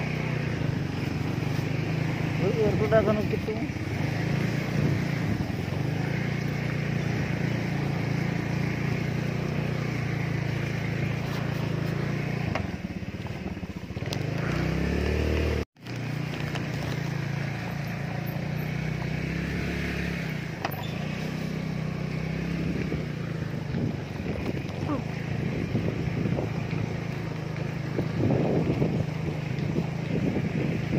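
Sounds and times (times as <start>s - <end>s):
small motorcycle engine revving: 0.0s - 30.9s.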